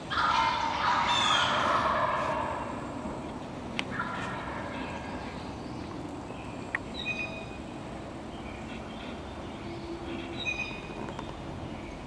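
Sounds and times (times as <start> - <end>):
high bird calls: 0.0 - 12.0
low outdoor rumble: 0.0 - 12.0.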